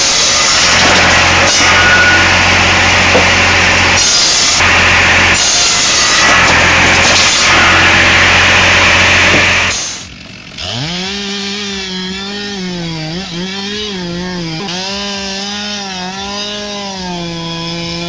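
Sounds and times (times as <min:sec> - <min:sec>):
chainsaw revving: 0:00.0 - 0:18.0
saw cutting through wood: 0:00.0 - 0:18.0.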